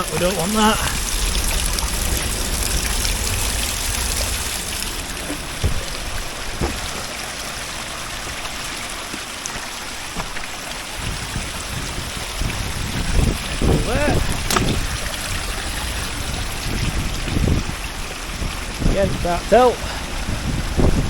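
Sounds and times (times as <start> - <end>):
stream trickling over rocks: 0.0 - 21.0.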